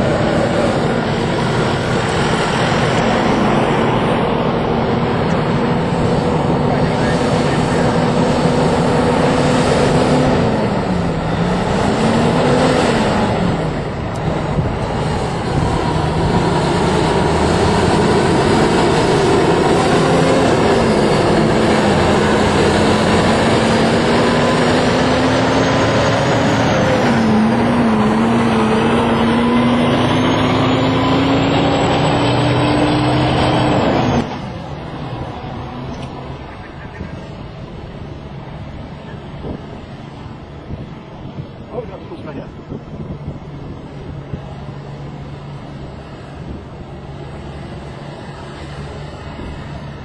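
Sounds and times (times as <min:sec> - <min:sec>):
diesel truck engines passing: 0:00.0 - 0:50.0
high whine: 0:00.0 - 0:50.0
road noise: 0:00.0 - 0:50.0.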